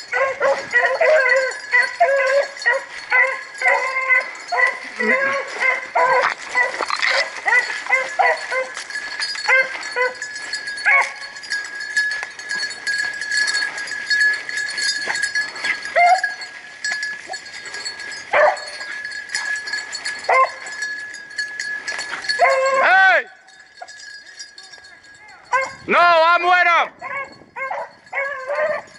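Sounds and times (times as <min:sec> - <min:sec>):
dogs yelping: 0:00.0 - 0:22.9, 0:25.5 - 0:25.8, 0:27.0 - 0:28.9.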